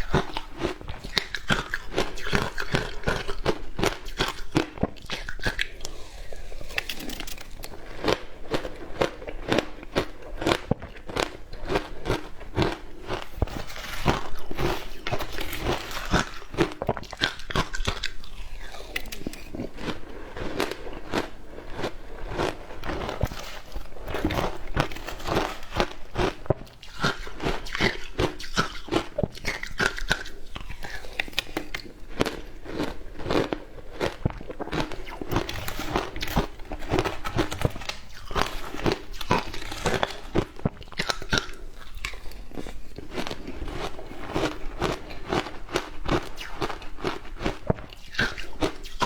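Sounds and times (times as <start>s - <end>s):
crunching of ice being chewed: 0.0s - 49.0s.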